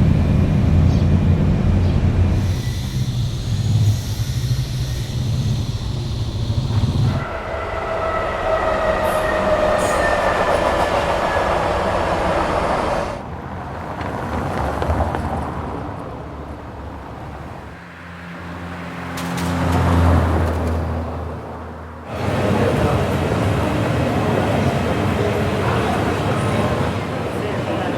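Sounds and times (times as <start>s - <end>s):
train running on rails: 0.0s - 17.8s, 18.5s - 27.9s.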